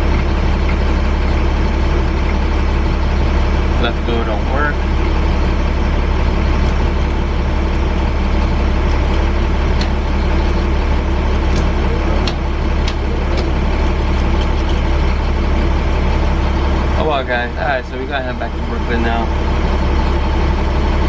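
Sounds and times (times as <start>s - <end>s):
bus engine droning: 0.0s - 21.0s.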